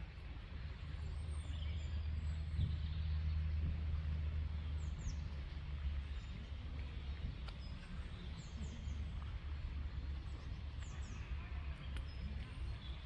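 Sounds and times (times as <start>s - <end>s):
low rumble and hiss: 0.0s - 13.0s
small birds calling: 0.8s - 13.0s.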